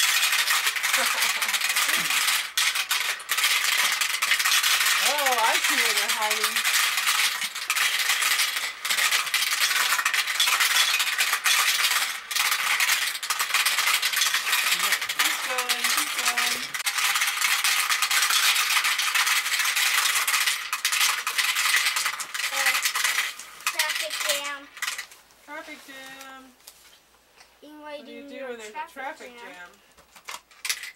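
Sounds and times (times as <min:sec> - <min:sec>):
marbles clattering in marble run: 0:00.0 - 0:25.2, 0:28.6 - 0:30.9.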